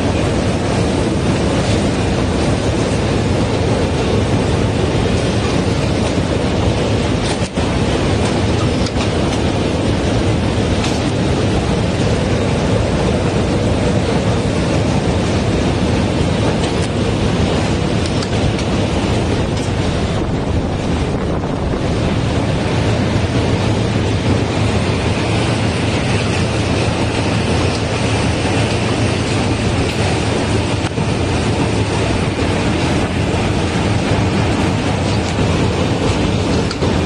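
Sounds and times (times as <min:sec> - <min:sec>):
machine running with mechanical din: 0:00.0 - 0:37.0.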